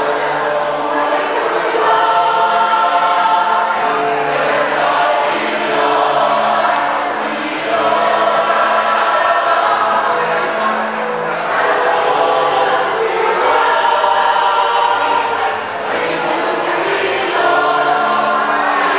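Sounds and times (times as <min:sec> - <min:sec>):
choir singing: 0:00.0 - 0:18.9.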